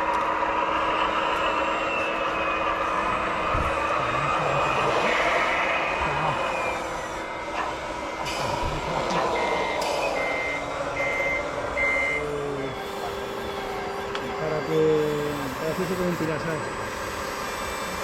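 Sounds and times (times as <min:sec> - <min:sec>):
truck engine drone: 0:00.0 - 0:18.0
reversing alarm beeping: 0:01.7 - 0:18.0.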